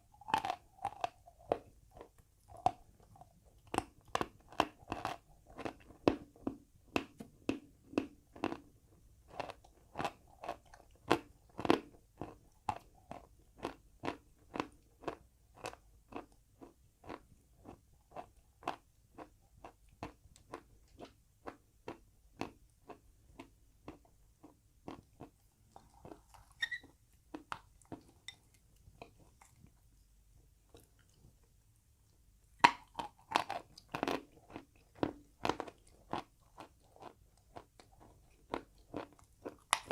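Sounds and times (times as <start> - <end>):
chalk crunching being chewed: 0.2 - 6.1, 9.3 - 29.9, 32.6 - 39.9.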